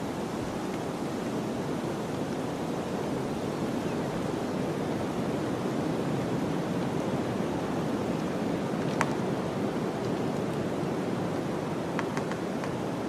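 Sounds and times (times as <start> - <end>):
wind blowing through forest: 0.0 - 13.0.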